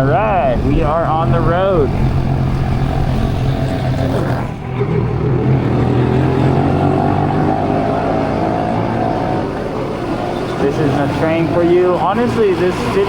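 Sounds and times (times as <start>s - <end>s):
motorbike engine droning: 0.0s - 13.0s
rushing road and air noise: 0.0s - 13.0s.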